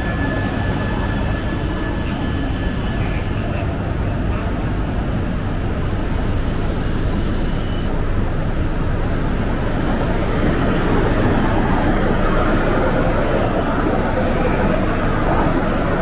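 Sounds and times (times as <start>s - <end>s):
train wheels and motors running: 0.0s - 16.0s.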